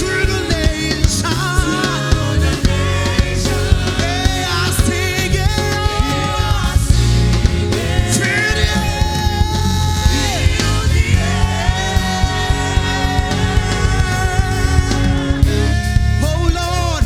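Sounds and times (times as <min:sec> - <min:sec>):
gospel band music: 0:00.0 - 0:17.0.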